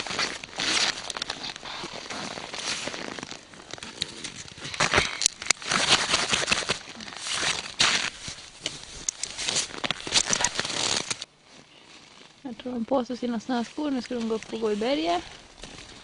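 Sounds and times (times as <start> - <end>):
snow crunching underfoot: 0.0 - 16.0
straps and buckles rustling: 0.0 - 16.0.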